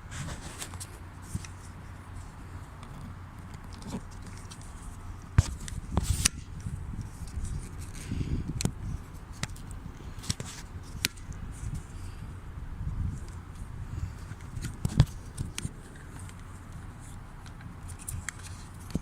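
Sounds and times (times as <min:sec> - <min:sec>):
low background rumble: 0:00.8 - 0:19.0.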